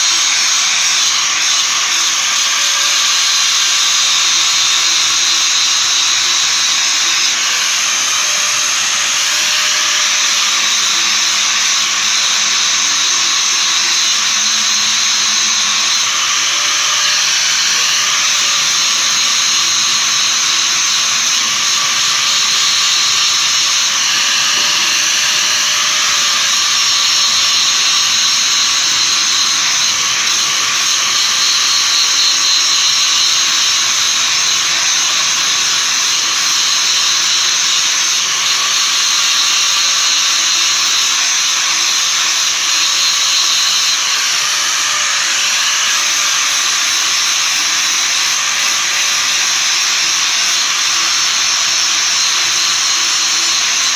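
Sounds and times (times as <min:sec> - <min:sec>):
metal blade on grinder: 0:00.0 - 0:53.9.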